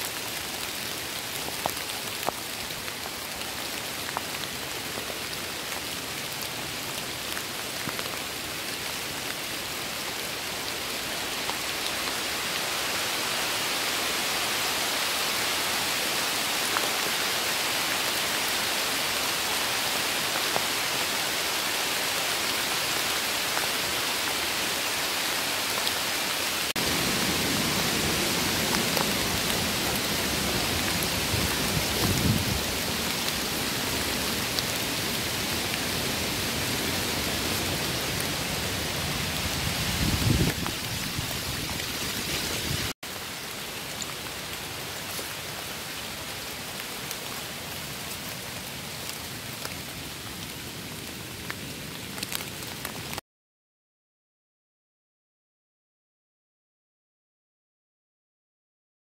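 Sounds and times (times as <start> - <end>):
rain falling on trees: 0.0 - 53.2.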